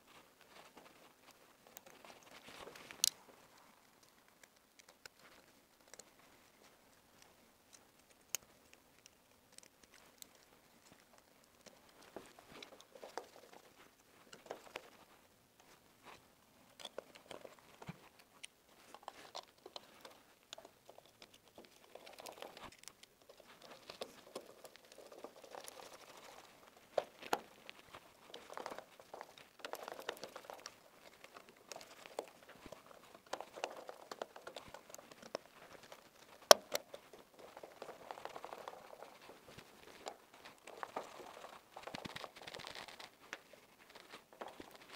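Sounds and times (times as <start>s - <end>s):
hands rustling and scraping: 0.0s - 44.9s.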